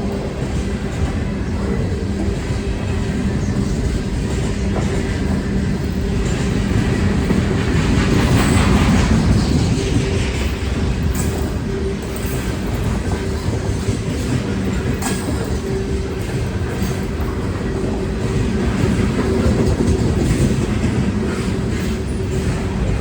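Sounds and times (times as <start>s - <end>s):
locomotive drone: 0.0s - 23.0s
train wheels on rails: 0.0s - 23.0s.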